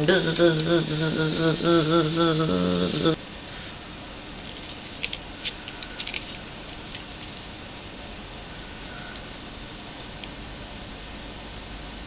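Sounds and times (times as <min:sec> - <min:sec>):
low room hiss: 0:00.0 - 0:12.0.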